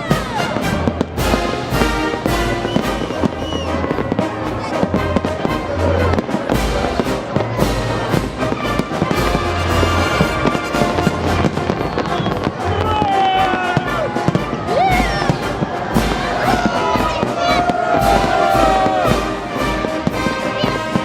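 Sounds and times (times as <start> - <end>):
fireworks bangs: 0.0 - 21.0
music playing: 0.0 - 21.0.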